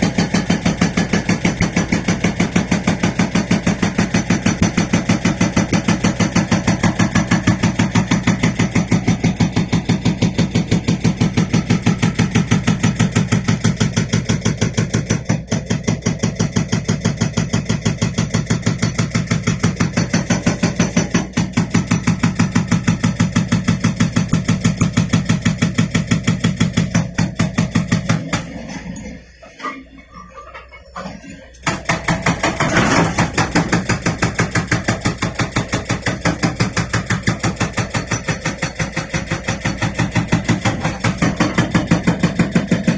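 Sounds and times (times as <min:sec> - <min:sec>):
hydraulic breaker hammering rock: 0:00.0 - 0:29.6, 0:31.0 - 0:42.9
diesel engine running: 0:00.0 - 0:42.9.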